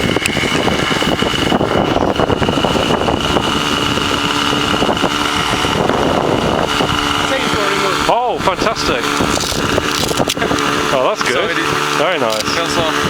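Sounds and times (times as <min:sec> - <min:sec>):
model plane motor whine: 0:00.0 - 0:13.0
wind buffeting microphone: 0:00.0 - 0:13.0.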